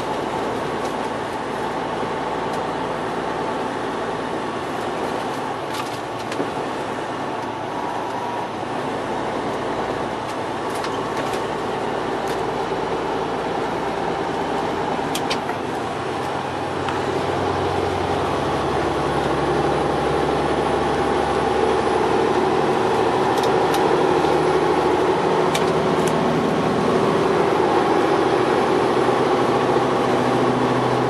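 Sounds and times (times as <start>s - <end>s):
truck cab engine and road hum: 0.0s - 31.0s.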